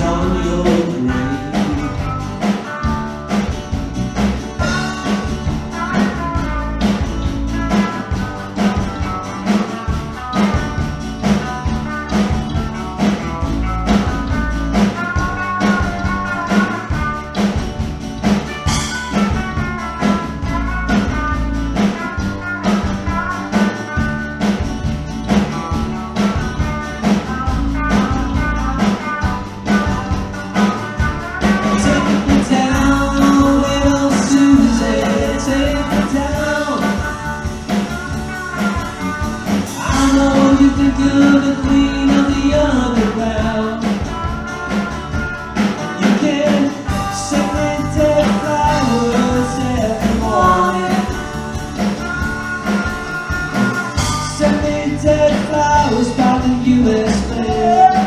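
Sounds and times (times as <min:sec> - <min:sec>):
live band playing country-rock: 0:00.0 - 0:58.0.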